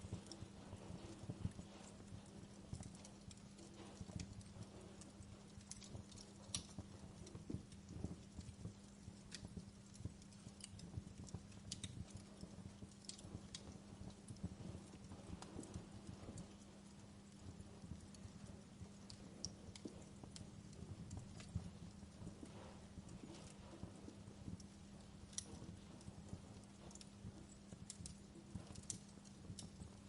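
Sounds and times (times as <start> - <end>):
low steady rumble and hum: 0.0 - 30.0
wood fire crackling: 0.0 - 30.0.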